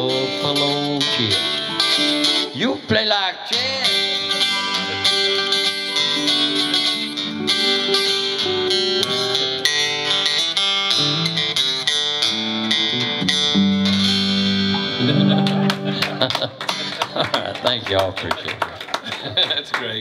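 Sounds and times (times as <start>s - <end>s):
acoustic and electric guitars playing: 0.0s - 19.4s.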